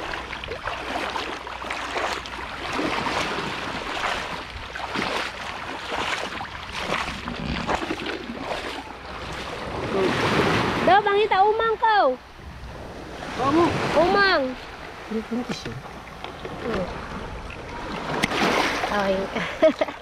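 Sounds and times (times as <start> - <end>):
feet splashing in shallow water: 0.0 - 11.0, 12.7 - 20.0.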